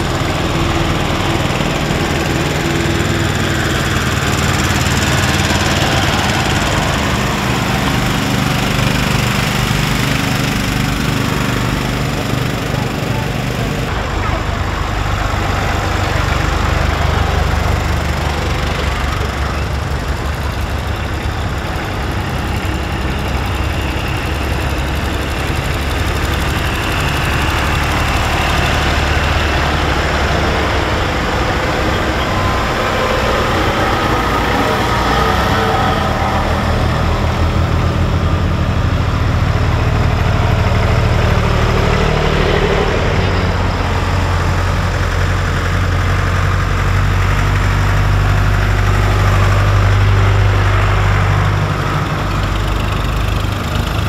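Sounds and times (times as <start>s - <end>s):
tractor engines running: 0.0s - 54.0s.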